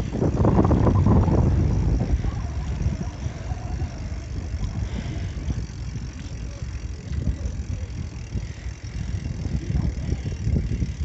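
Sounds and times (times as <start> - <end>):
bicycle rolling over brick pavers: 0.0 - 11.0
wind buffeting microphone: 0.0 - 11.0.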